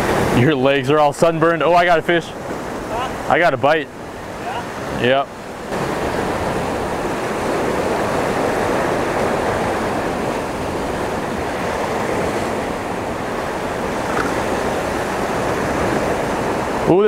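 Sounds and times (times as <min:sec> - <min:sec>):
ocean surf washing on rocks: 0:00.0 - 0:17.0.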